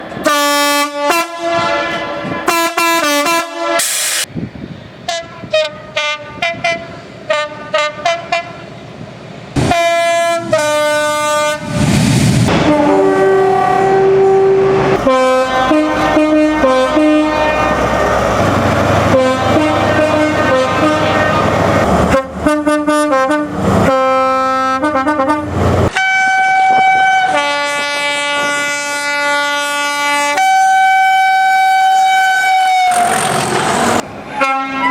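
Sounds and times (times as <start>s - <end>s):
rumble of passing train: 0.0s - 3.1s, 4.2s - 34.9s
train air horn: 0.2s - 4.3s, 5.1s - 8.6s, 9.6s - 11.9s, 12.5s - 18.0s, 19.1s - 33.6s, 34.3s - 34.9s.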